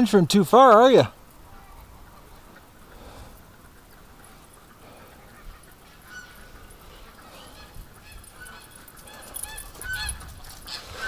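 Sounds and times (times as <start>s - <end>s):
geese honking: 1.5s - 11.0s.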